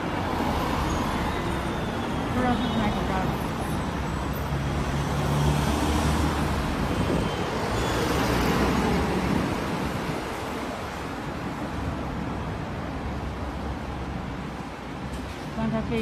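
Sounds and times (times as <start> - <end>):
vehicles passing with engine hum: 0.0 - 16.0.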